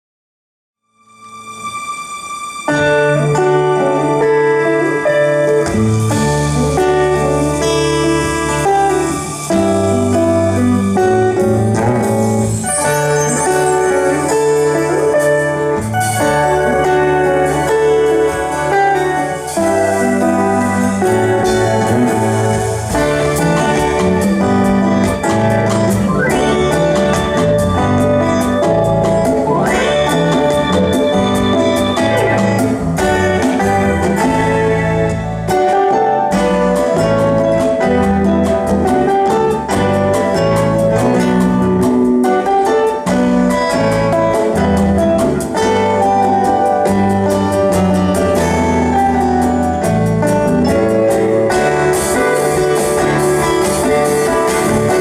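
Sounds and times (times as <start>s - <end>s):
live band instrumental: 1.1s - 55.0s
drums: 2.6s - 55.0s
sustained keyboard chords: 2.8s - 55.0s.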